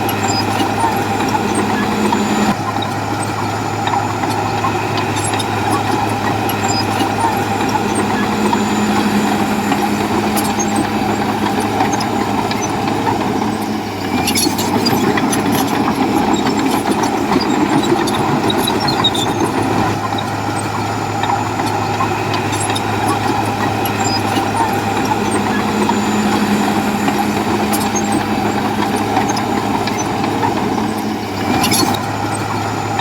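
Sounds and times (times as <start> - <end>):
diesel earthmoving machine engine: 0.0 - 33.0.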